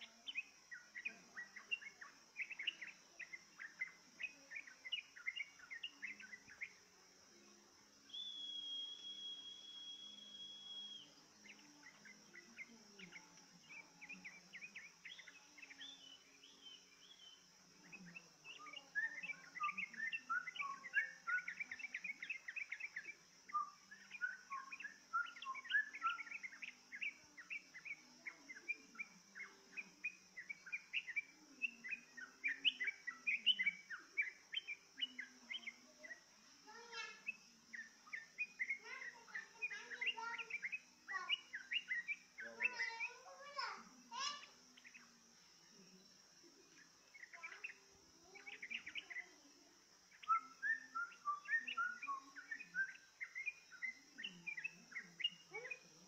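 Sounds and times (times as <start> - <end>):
bird chirping song: 0.0 - 56.0
steady high hiss: 0.0 - 56.0.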